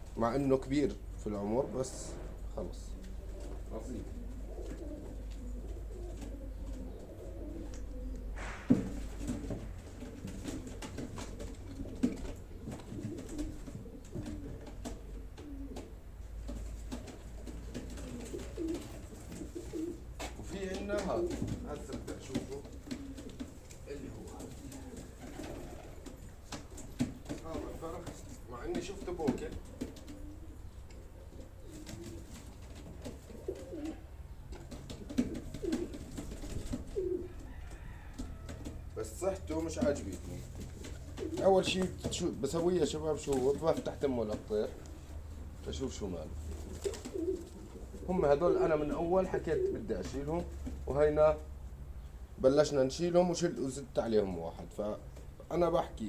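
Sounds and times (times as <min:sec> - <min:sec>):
light clicks and shuffling: 0:00.0 - 0:56.0
pigeons cooing: 0:00.0 - 0:56.0.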